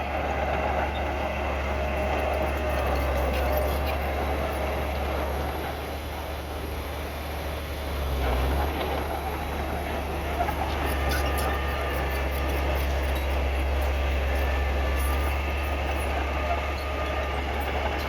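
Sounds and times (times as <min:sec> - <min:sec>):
bulldozer diesel engine running: 0:00.0 - 0:18.0
crawler tracks clattering and squealing: 0:00.6 - 0:05.4, 0:08.2 - 0:18.0.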